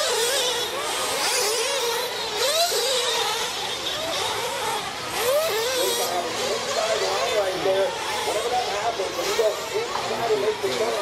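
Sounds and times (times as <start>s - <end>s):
rc truck engines whining: 0.0s - 11.0s.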